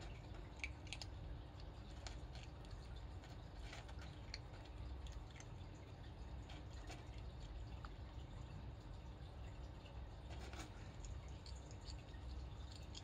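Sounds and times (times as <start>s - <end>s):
cat crunching kibble: 0.0s - 8.4s, 10.3s - 13.0s
low steady rumble: 0.0s - 13.0s.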